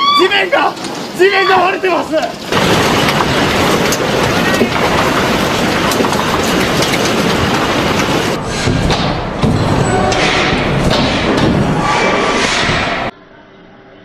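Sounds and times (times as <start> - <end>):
earthquake rumbling and rattling: 0.0 - 13.1.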